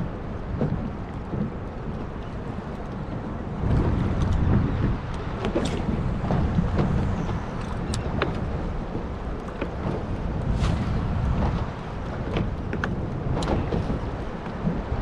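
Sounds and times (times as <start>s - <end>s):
water sounds: 0.0s - 15.0s
wind rumbling on microphone: 0.0s - 15.0s.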